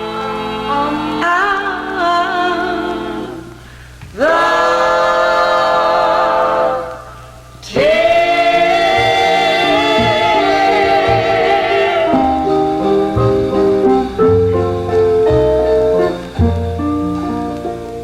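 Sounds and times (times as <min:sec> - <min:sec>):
vocal group singing harmony chords: 0:00.0 - 0:18.0.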